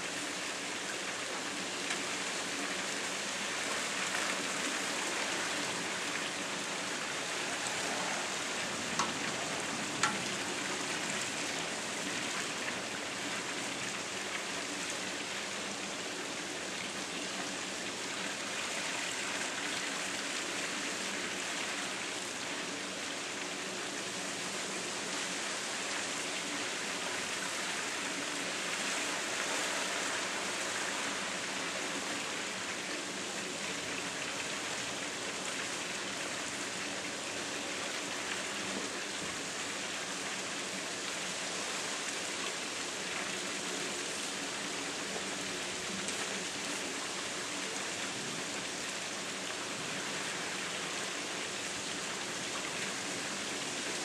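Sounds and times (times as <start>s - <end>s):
splashing falling water: 0.0s - 54.0s.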